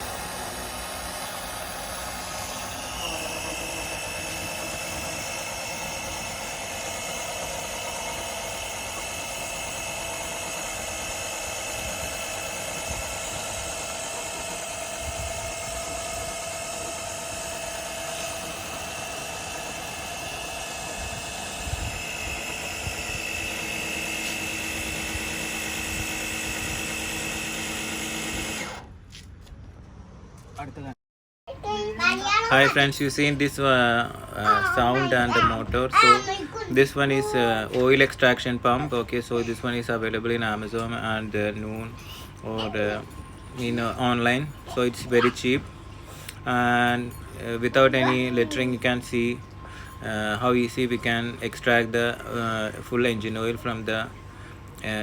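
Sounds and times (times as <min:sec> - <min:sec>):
electric pump motor whining: 0:00.0 - 0:29.0, 0:31.6 - 0:55.0.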